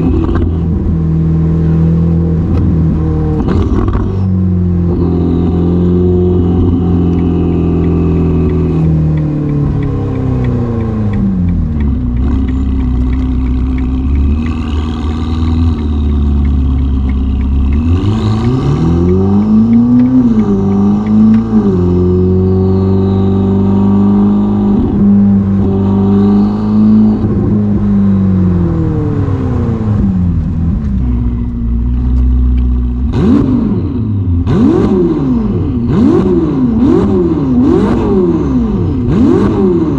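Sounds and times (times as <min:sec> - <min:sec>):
sports car engine revving: 0:00.0 - 0:39.9.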